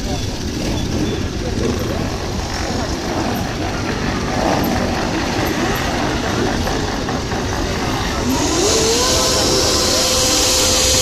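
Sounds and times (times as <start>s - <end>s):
motorcycle engines revving: 0.0s - 11.0s
rising steady tone: 0.4s - 11.0s.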